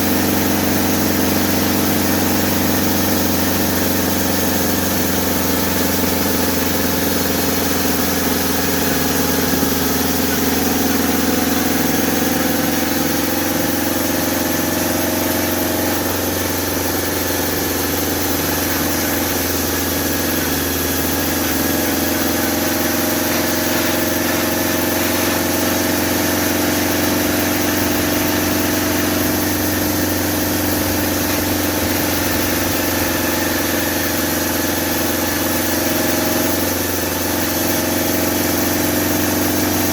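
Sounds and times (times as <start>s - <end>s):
sawmill blade running: 0.0s - 39.9s.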